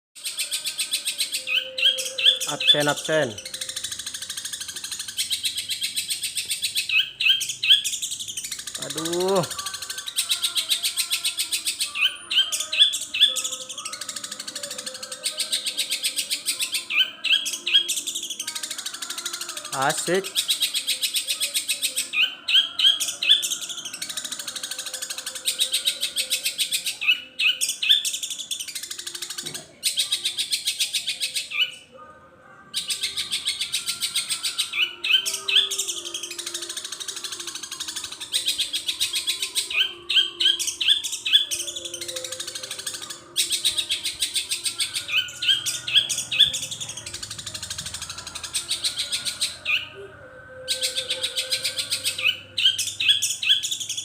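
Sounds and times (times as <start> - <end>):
bird singing rapid chattering notes: 0.2 - 31.9, 32.8 - 54.0.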